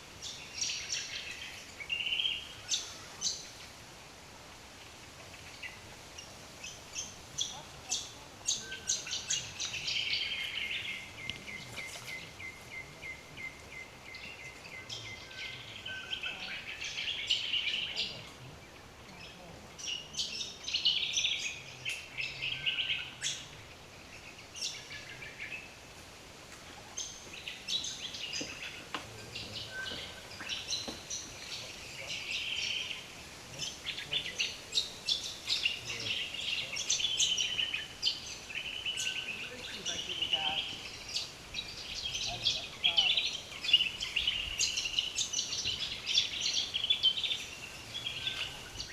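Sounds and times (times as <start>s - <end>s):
wild birds chirping and warbling: 0.0s - 48.9s.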